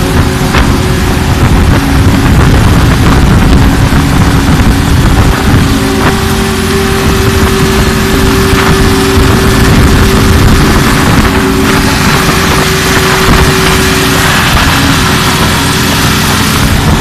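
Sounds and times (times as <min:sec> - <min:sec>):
concrete pump machinery droning: 0:00.0 - 0:17.0.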